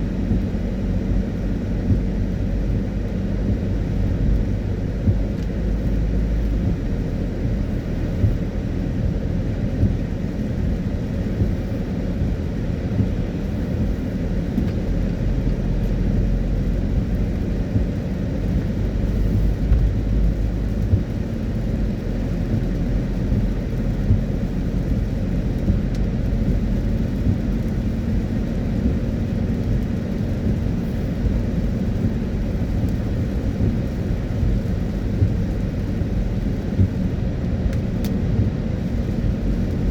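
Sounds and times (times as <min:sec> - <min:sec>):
tyre noise on wet road: 0:00.0 - 0:39.9.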